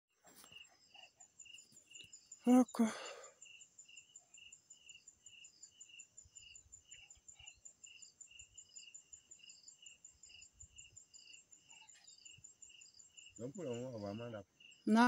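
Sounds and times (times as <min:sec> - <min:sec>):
insects chirping: 0:00.2 - 0:15.0.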